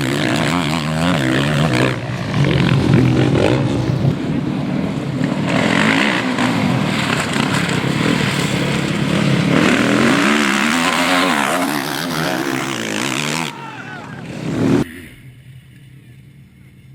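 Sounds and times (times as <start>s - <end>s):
motocross bike engines revving: 0.0s - 16.9s.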